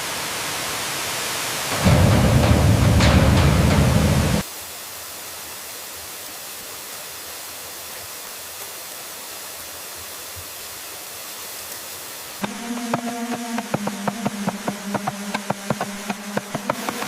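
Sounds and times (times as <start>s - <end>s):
waterfall hiss: 0.0s - 17.0s.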